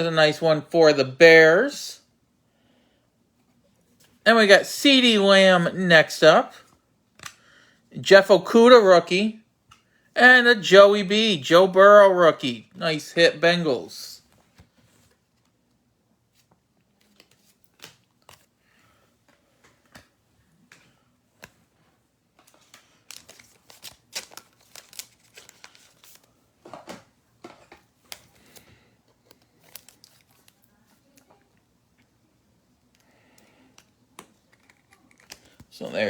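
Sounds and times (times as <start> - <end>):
cards and plastic sleeves rustling: 3.8 - 7.5, 8.2 - 15.6, 16.2 - 32.2, 32.8 - 36.0.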